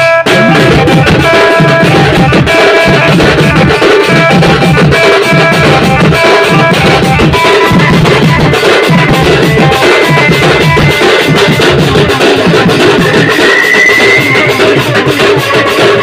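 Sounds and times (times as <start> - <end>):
drum ensemble playing: 0.0 - 16.0
repeating melody of held notes: 0.1 - 15.2.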